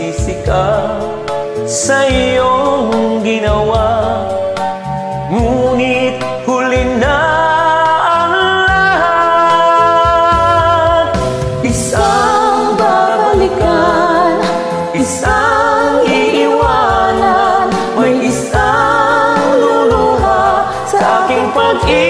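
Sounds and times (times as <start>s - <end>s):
man and woman singing duet: 0.0s - 4.4s, 5.3s - 22.0s
karaoke backing track: 0.0s - 22.0s.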